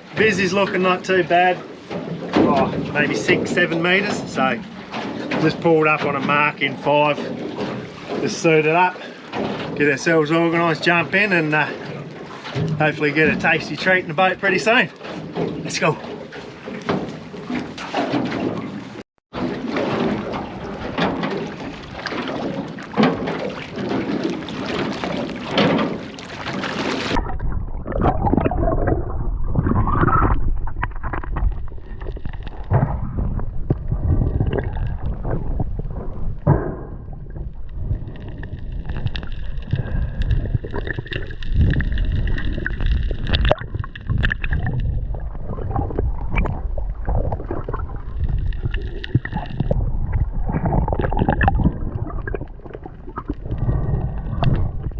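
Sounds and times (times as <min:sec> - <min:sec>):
knocks underwater: 0:00.0 - 0:54.9
underwater gurgling: 0:00.0 - 0:54.9
water above surface: 0:00.0 - 0:54.9
wind: 0:00.0 - 0:54.9.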